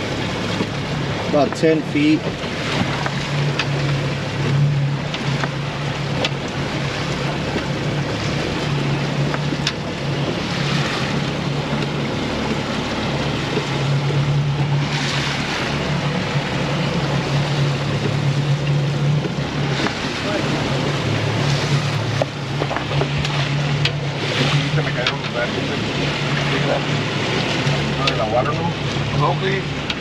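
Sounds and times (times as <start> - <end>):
boat motor humming: 0.0 - 30.0
sea wash: 0.0 - 30.0.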